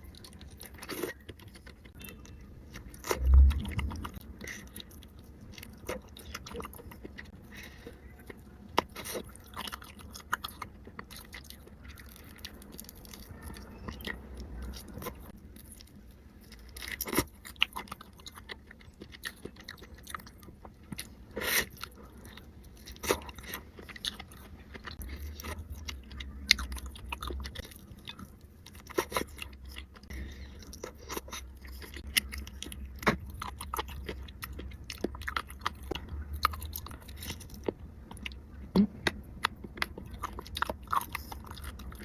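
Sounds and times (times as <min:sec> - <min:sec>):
chewing and biting seafood: 0:00.0 - 0:42.0.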